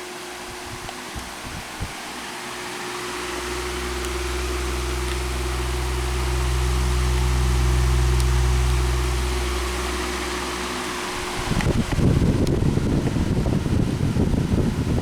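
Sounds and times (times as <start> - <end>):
table fan running: 0.0 - 15.0
low rumble: 1.8 - 14.5.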